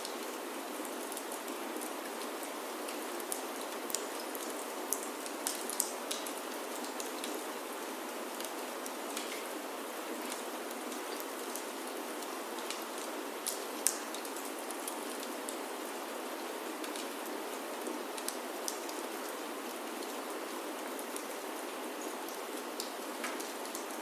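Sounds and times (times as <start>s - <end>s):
rain on a wooden roof: 0.0s - 24.0s.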